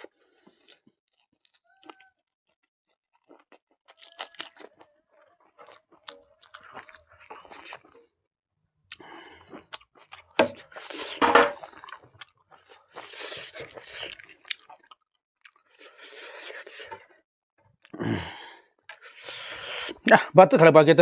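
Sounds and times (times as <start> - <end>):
person chewing crunchy food: 0.0 - 8.1, 8.9 - 17.2, 17.8 - 20.0.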